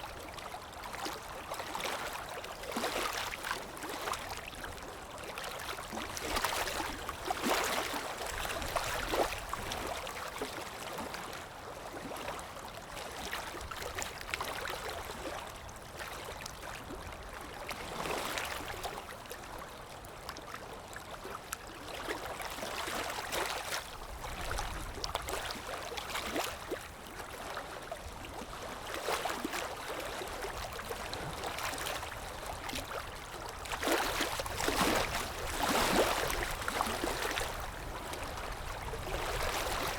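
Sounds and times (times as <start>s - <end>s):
small water splashes: 0.0s - 19.6s, 20.2s - 39.9s.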